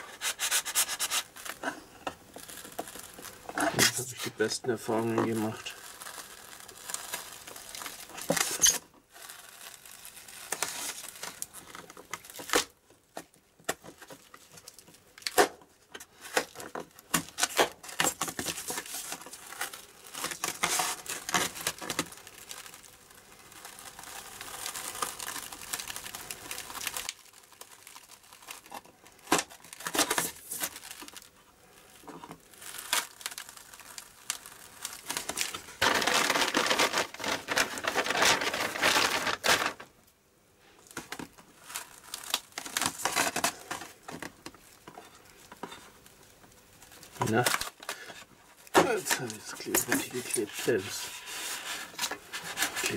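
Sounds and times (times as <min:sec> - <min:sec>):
adhesive tape tearing and crinkling: 0:00.0 - 0:39.9, 0:40.8 - 0:52.9.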